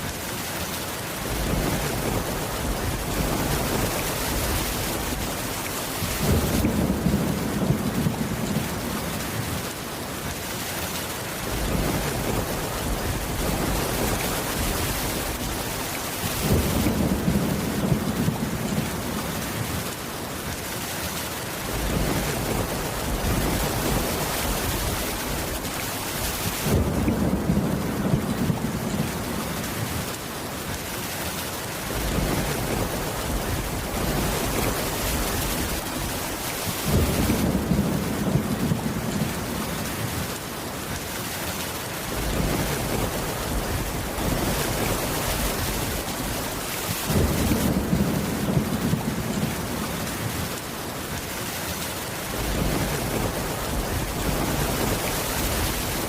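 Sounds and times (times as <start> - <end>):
heavy rain on a wooden roof: 0.0 - 56.0.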